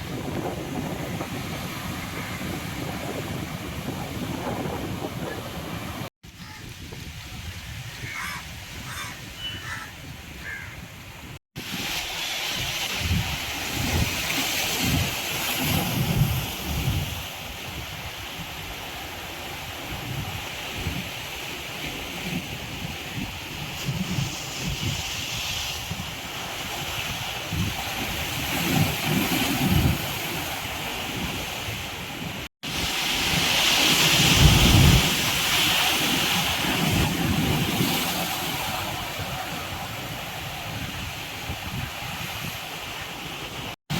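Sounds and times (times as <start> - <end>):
sea waves breaking: 0.0 - 10.6, 11.2 - 43.9
wind buffeting microphone: 0.0 - 19.0, 19.7 - 43.9.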